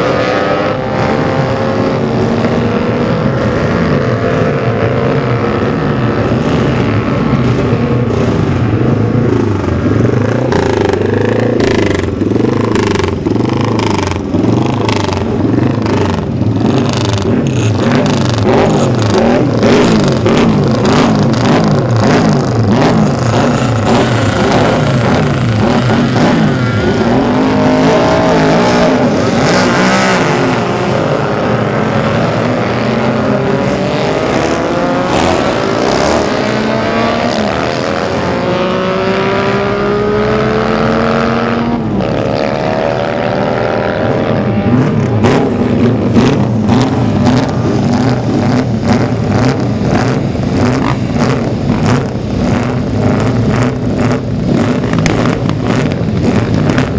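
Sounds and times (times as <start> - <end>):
racing motorcycle engines: 0.0 - 56.9.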